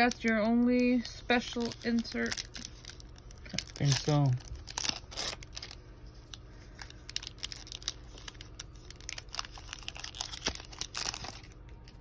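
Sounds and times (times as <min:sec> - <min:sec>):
card pack wrapper crinkling: 0:00.0 - 0:12.0.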